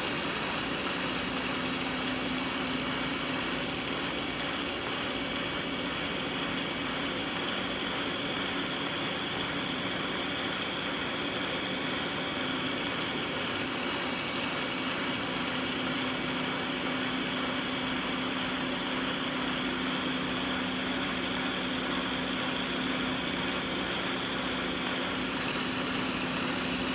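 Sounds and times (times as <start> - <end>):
welding equipment hissing: 0.0 - 11.0, 11.7 - 26.9.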